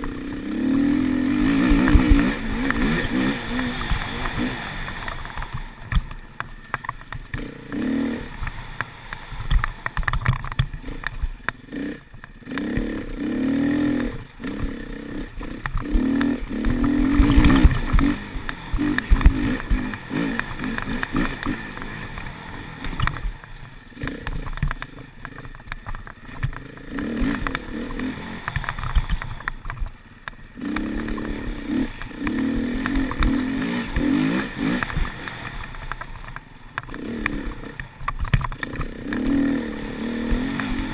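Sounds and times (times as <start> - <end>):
dirt bike engine revving: 0.0 - 40.9
bike knocks and rattles: 1.4 - 7.5, 8.4 - 13.0, 13.8 - 40.9.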